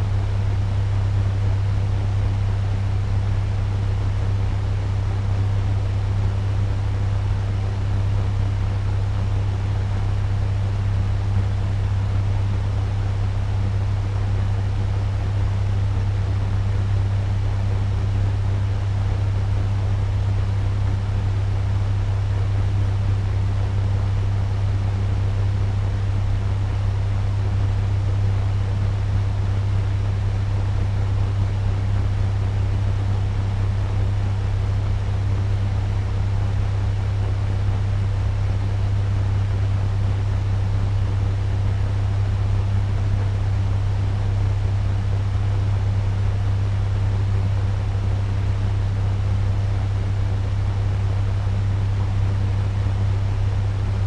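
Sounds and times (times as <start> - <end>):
fan humming with airy rush: 0.0 - 54.0.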